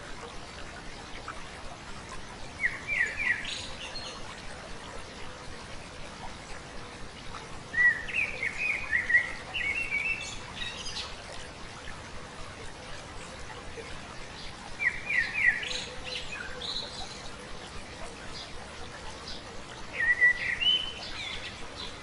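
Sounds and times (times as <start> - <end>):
stream rushing: 0.0 - 22.0
songbird chirping: 2.0 - 22.0.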